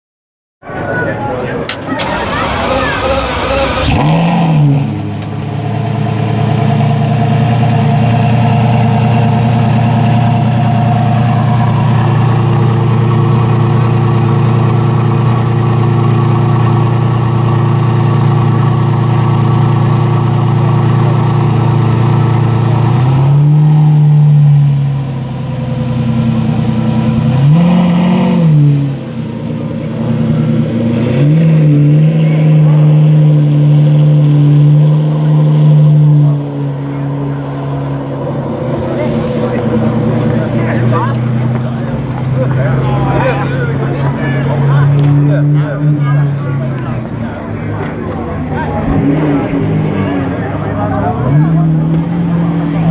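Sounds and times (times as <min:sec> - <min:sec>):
sports car engine idling and revving: 0:00.7 - 0:52.9.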